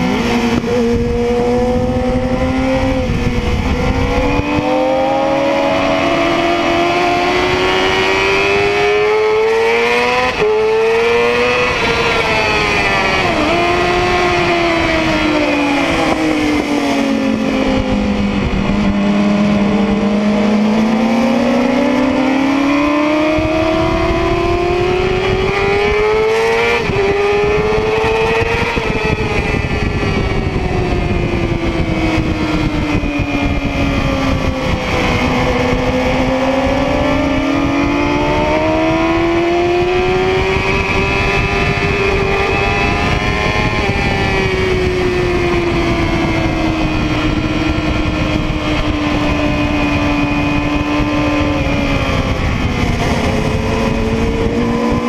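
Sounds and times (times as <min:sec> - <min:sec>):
motorcycle engine revving: 0:00.0 - 0:55.0
wind over microphone: 0:00.0 - 0:55.0.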